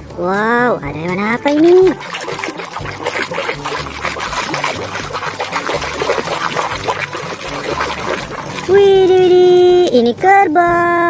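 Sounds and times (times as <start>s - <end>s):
water splashing and trickling: 0.9s - 10.0s.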